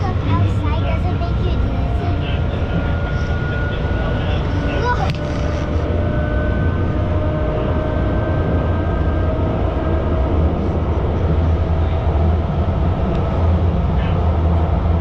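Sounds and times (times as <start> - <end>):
train rumbling: 0.0 - 15.0
thin rising whine: 1.9 - 15.0.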